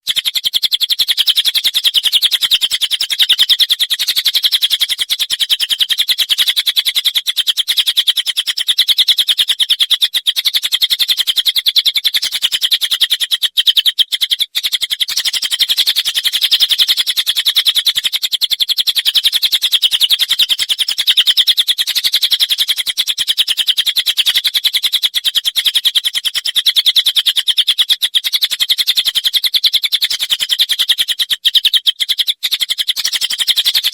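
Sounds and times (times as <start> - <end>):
rapid high repeated bird notes: 0.0 - 33.9.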